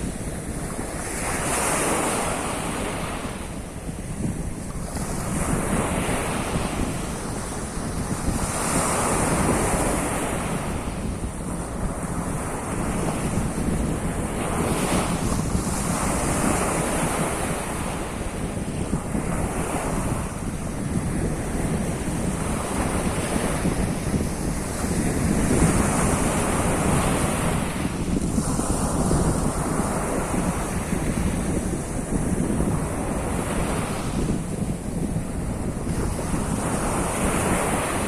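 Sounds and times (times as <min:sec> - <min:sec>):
waves washing onto shore: 0:00.0 - 0:38.0
wind buffeting microphone: 0:00.0 - 0:38.0.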